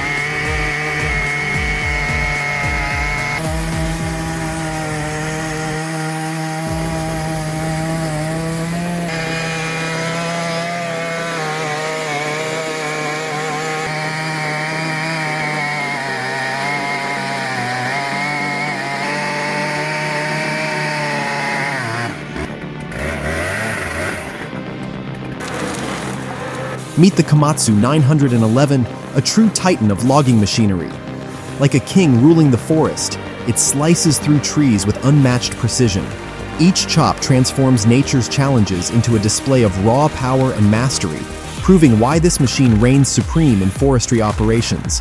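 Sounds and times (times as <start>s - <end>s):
chainsaw cutting log: 0.0s - 45.0s.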